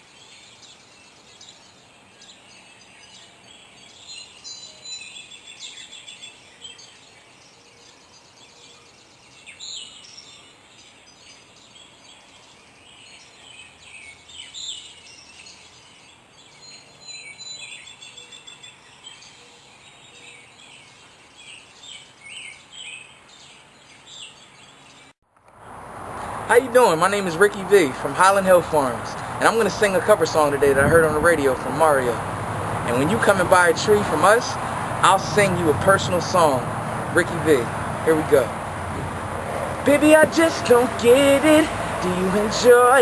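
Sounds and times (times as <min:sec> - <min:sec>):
songbirds singing and chirping: 0:00.0 - 0:25.2, 0:26.0 - 0:43.0
faint outdoor hiss: 0:00.0 - 0:43.0.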